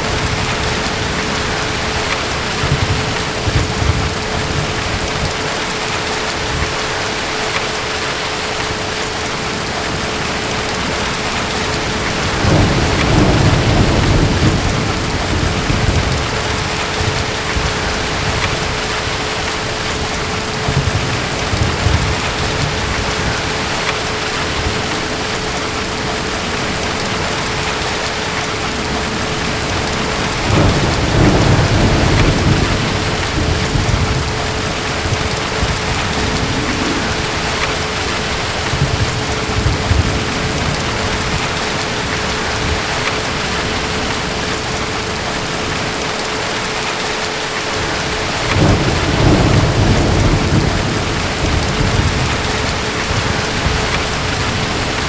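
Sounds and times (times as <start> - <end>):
distant thunder rolling: 0.0 - 5.6, 9.5 - 46.0, 47.8 - 55.0
steady rain falling: 0.0 - 55.0.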